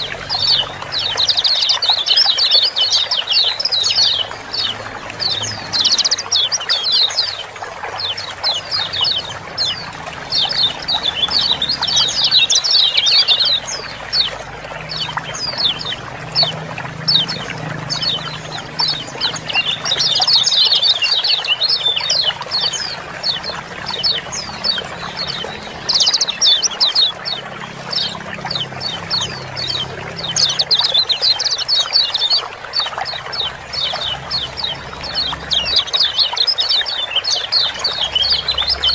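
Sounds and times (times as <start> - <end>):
birds giving rapid chip calls: 0.0 - 38.9
running water: 0.0 - 38.9.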